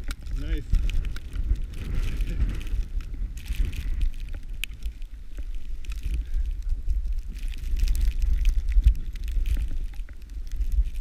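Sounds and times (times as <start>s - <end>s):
wind rumble on microphone: 0.0s - 11.0s
skis hissing through powder snow: 0.3s - 9.9s.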